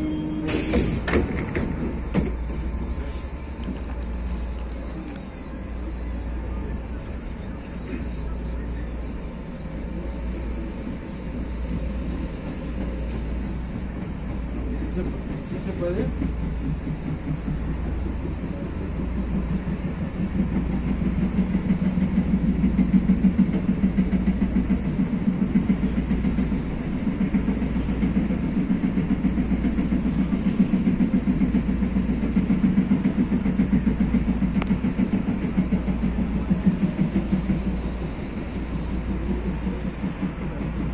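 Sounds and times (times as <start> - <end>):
light rail car rumbling: 0.0 - 40.9.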